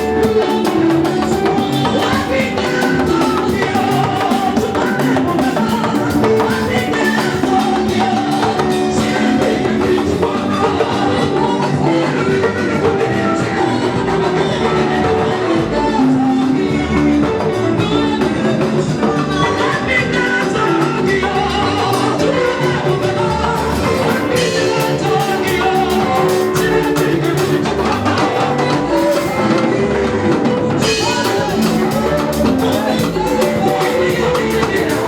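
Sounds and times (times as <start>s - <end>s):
drum kit beat: 0.0s - 35.0s
gospel band playing: 0.0s - 35.0s
people singing: 0.0s - 35.0s.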